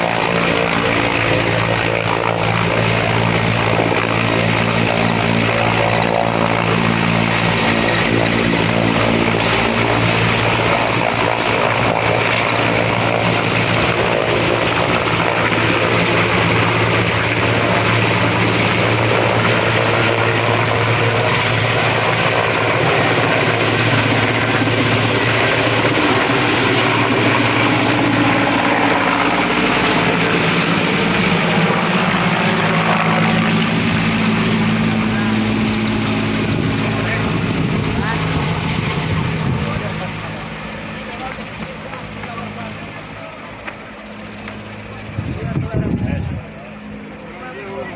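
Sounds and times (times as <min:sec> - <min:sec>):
helicopter rotor and engine drone: 0:00.0 - 0:47.9.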